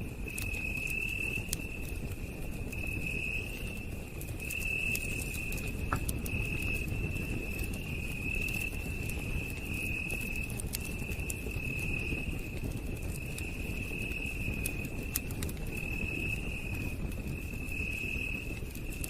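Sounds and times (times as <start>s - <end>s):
campfire crackling and popping: 0.0s - 19.0s
insects trilling: 0.3s - 1.8s, 4.4s - 19.0s.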